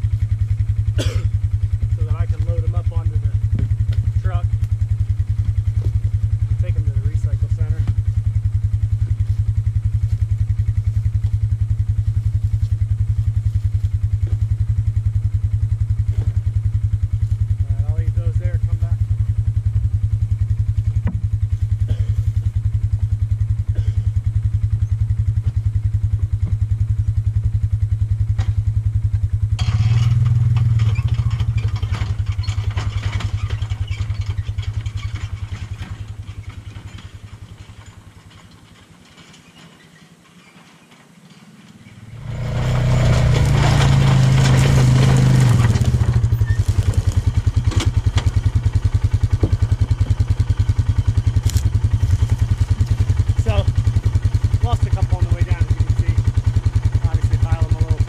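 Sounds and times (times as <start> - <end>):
utility vehicle engine: 0.0 - 58.0.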